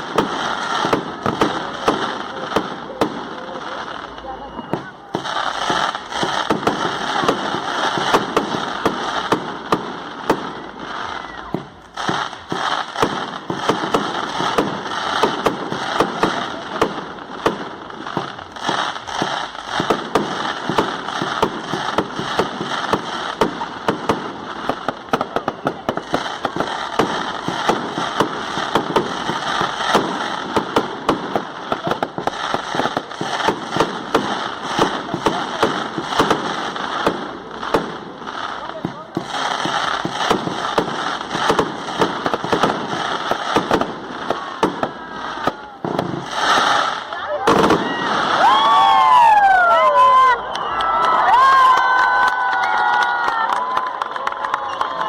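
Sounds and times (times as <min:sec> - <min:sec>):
fireworks hissing: 0:00.0 - 0:49.3
fireworks crackling and popping: 0:00.0 - 0:55.0.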